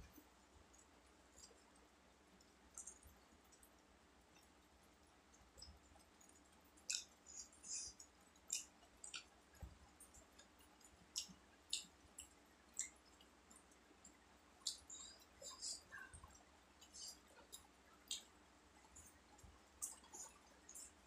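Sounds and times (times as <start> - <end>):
chewing with wet mouth clicks: 0.7 - 21.0.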